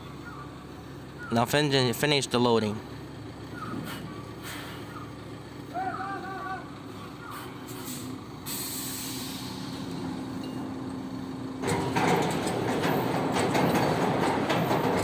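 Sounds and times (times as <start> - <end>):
heavy vehicle rumbling and rattling: 0.0 - 15.0.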